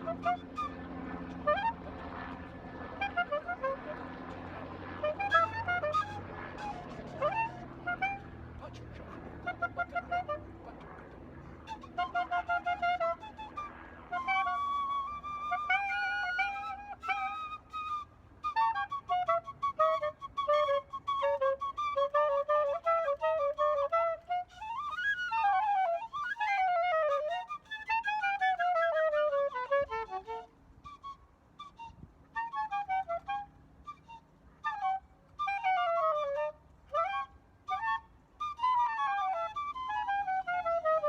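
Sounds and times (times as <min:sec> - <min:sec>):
flute melody: 0:00.0 - 0:41.0.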